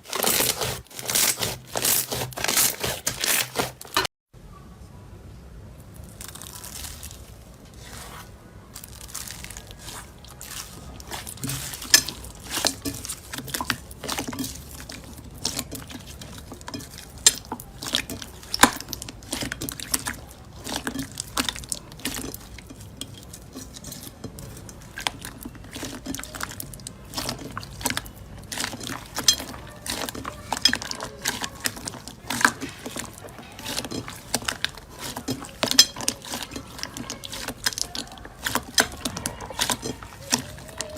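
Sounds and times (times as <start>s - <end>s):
slime squished by hand: 6.0s - 40.9s.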